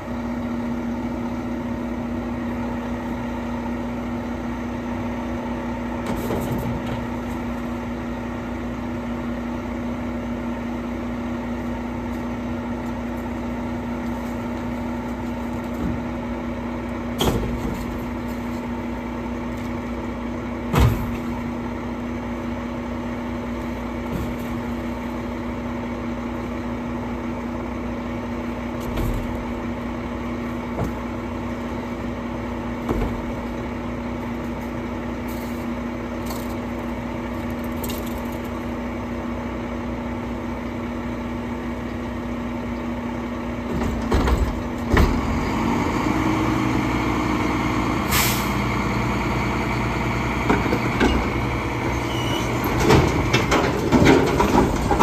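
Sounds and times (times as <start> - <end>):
garbage truck engine idling: 0.0 - 55.0.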